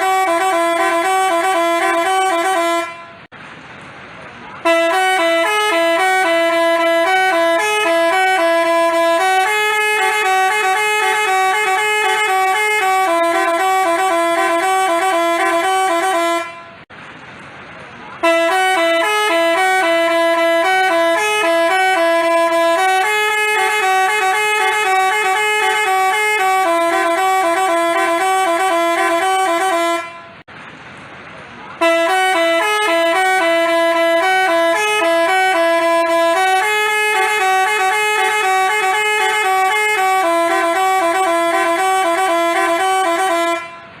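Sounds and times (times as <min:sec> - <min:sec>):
multi-tone horn playing a tune: 0:00.0 - 0:03.3, 0:04.6 - 0:16.8, 0:18.2 - 0:30.4, 0:31.8 - 0:44.0.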